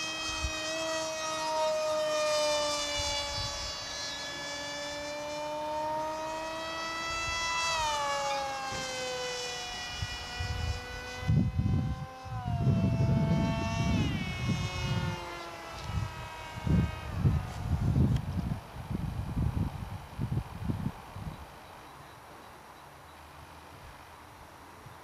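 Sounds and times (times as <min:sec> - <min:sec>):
model jet motor whine: 0:00.0 - 0:22.3.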